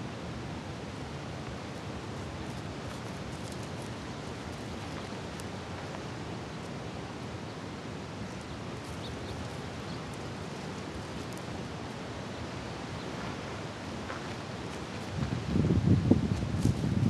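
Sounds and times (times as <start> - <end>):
wind buffeting microphone: 0.8 - 17.0.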